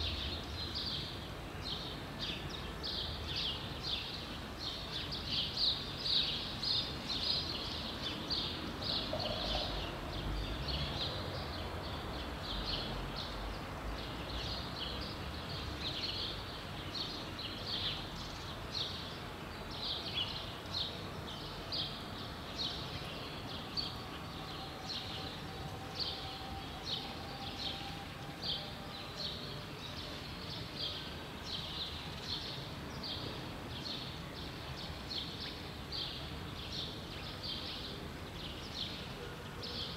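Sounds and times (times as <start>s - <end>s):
city street noise: 0.0s - 39.9s.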